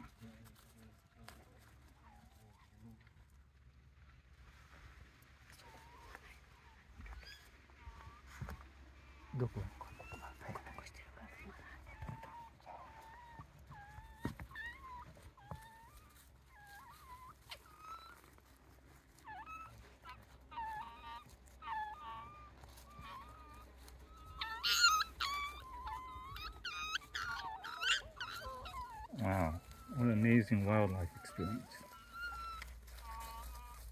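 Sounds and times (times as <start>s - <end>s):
animal pups whimpering and squealing: 0.0s - 3.3s, 5.4s - 33.9s.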